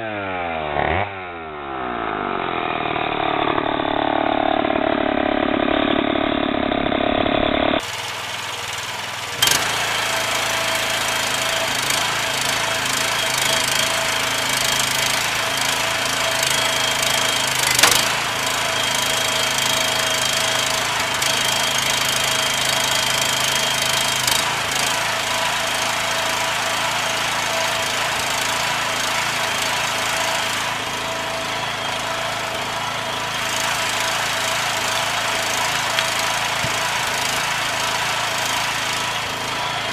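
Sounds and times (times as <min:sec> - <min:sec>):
woodworking machinery running: 0:02.2 - 0:39.9.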